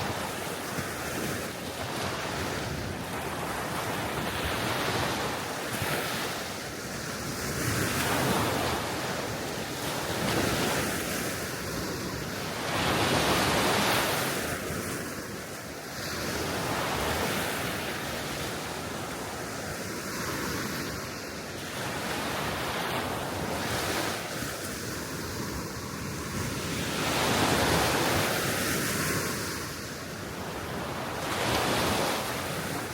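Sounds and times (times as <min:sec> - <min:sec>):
small waves washing onto shore: 0:00.0 - 0:32.9
steady wind: 0:00.0 - 0:32.9.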